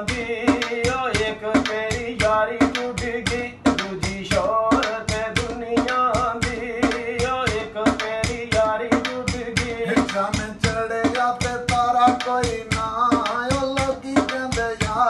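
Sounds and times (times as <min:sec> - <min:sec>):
hand beat on metal tray: 0:00.0 - 0:15.0
man singing folk song: 0:00.0 - 0:15.0.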